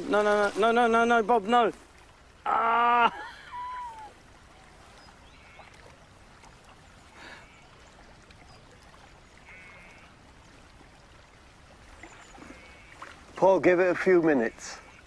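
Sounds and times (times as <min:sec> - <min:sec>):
lake water lapping: 0:00.0 - 0:15.0.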